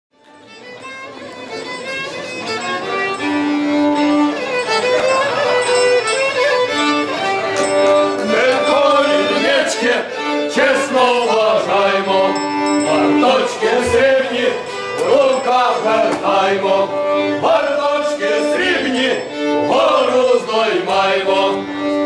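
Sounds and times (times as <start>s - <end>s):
fiddle playing bowed notes: 0.2s - 22.0s.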